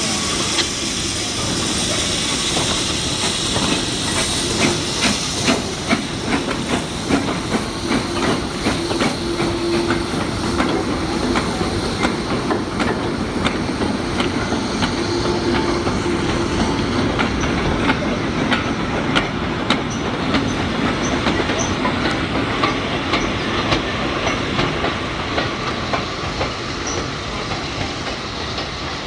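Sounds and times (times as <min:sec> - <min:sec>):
loud hiss of steam: 0:00.0 - 0:29.0.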